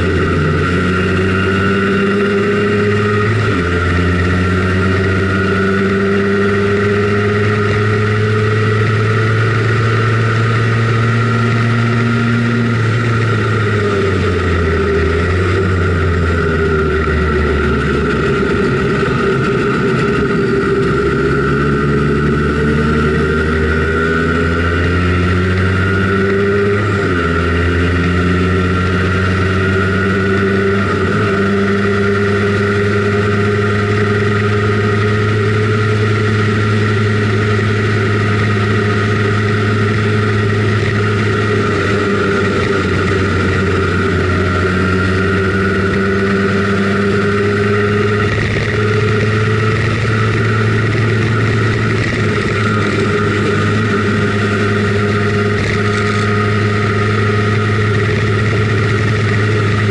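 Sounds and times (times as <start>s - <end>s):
scooter engine running: 0.0s - 59.9s.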